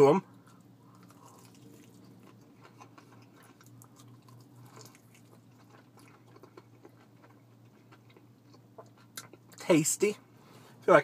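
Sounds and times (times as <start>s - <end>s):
low steady hum: 0.0s - 11.0s
person chewing crispy food: 0.2s - 9.6s.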